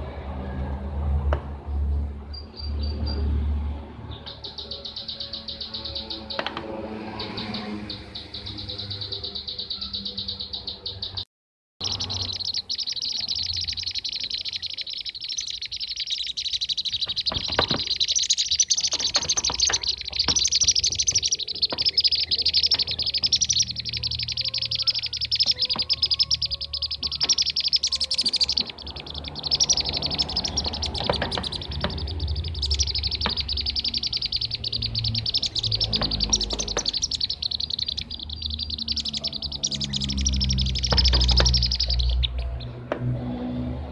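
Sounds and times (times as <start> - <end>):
rapid high bird chirping calls: 4.1 - 11.2, 11.8 - 42.8.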